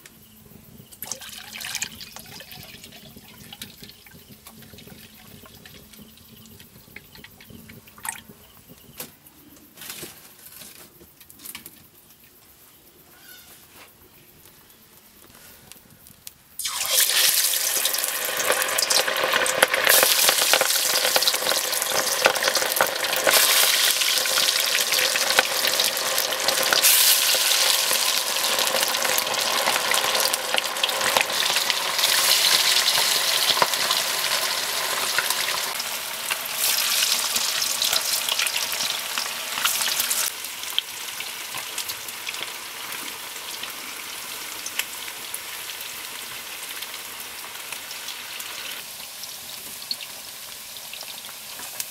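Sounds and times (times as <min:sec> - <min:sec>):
chicken deep-frying in oil: 0:00.0 - 0:09.0, 0:16.2 - 0:51.9.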